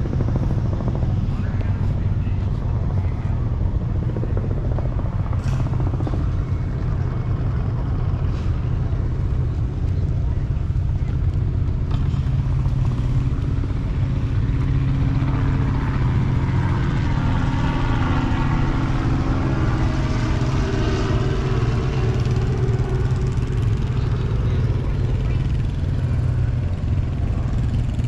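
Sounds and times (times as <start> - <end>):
engine low rumble: 0.0 - 28.0.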